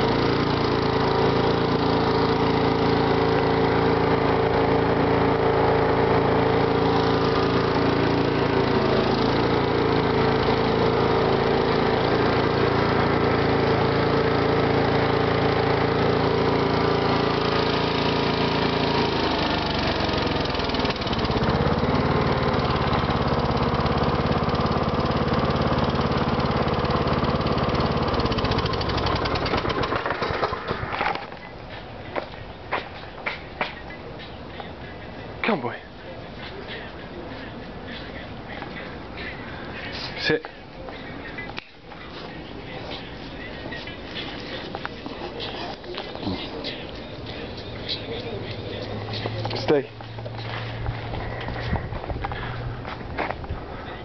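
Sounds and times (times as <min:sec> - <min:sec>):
riding lawn mower engine: 0:00.0 - 0:54.0.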